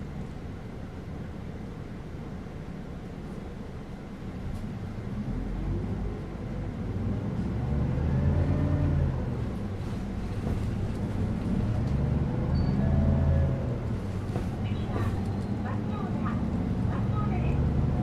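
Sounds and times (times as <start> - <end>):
bus engine accelerating: 0.0 - 18.0.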